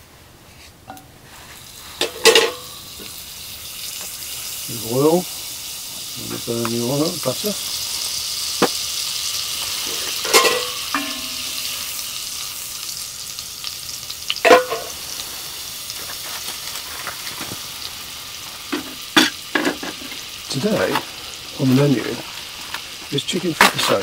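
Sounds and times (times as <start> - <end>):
butter and oil sizzling: 0.9 - 24.0.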